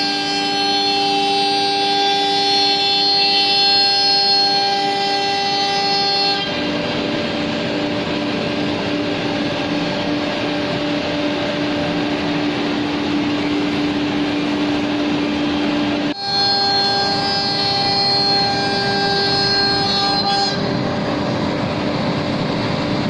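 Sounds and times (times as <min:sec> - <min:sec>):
router cutting plywood: 0:00.0 - 0:21.3
higher-pitched whine: 0:00.0 - 0:23.0
router spindle whine: 0:00.0 - 0:23.0.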